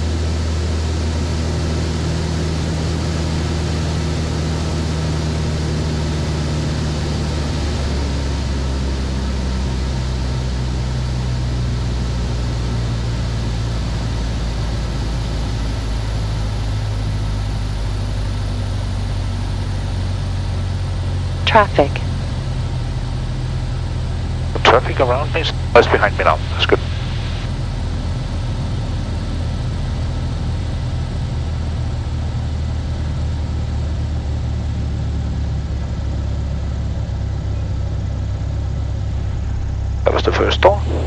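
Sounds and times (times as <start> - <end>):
aircraft engine and propeller: 0.0 - 41.0.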